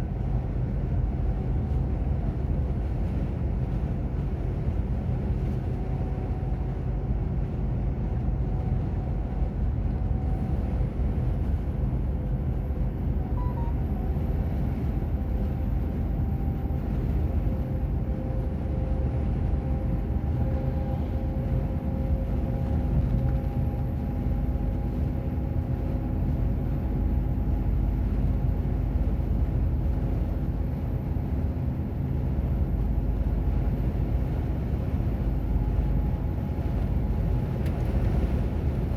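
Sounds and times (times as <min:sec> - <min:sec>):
road rumble: 0:00.0 - 0:38.9
truck engine drone: 0:05.2 - 0:38.9.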